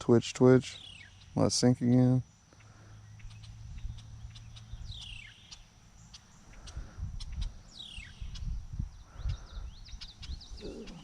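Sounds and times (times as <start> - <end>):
bird calling: 0.0 - 11.0
low outdoor rumble: 0.0 - 11.0.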